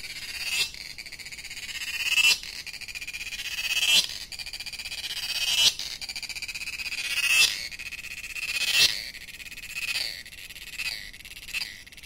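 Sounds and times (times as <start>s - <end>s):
cicada buzzing: 0.0s - 11.8s.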